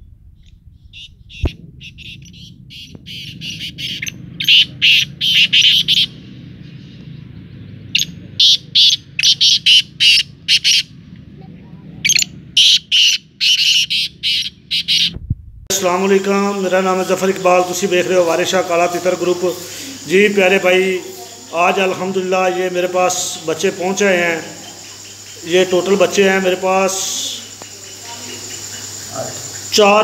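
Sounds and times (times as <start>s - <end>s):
francolins calling: 0.0s - 11.1s, 11.9s - 30.0s
low background rumble: 0.0s - 25.5s.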